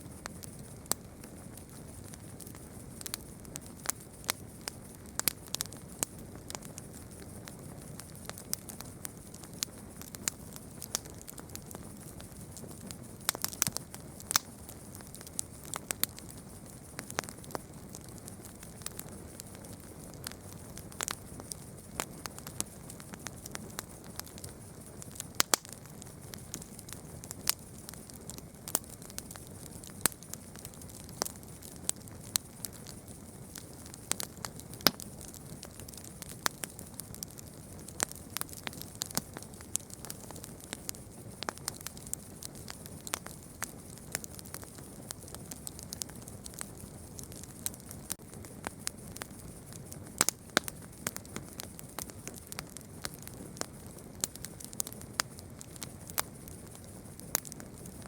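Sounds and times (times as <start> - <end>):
soft hiss of flames: 0.0 - 58.0
wood crackling and popping: 0.1 - 58.0.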